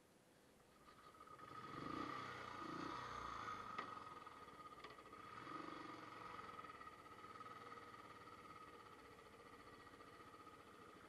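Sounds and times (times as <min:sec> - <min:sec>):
motorcycle engine running: 0:00.8 - 0:11.0.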